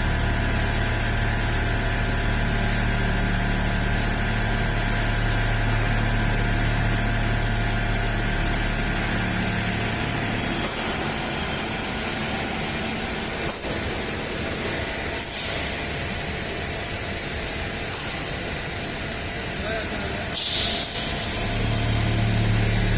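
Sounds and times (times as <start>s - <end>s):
foam cutting machine humming: 0.0s - 22.9s
steady high whine: 0.0s - 22.9s.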